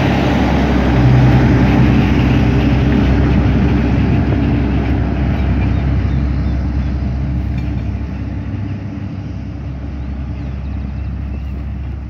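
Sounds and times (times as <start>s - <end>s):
diesel engine low rumble: 0.0s - 12.0s.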